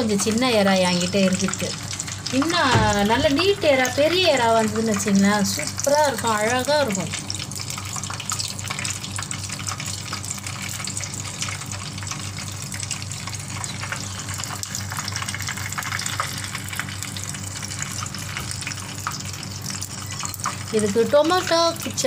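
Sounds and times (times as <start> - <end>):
deep-frying sizzle and crackle: 0.0 - 22.0.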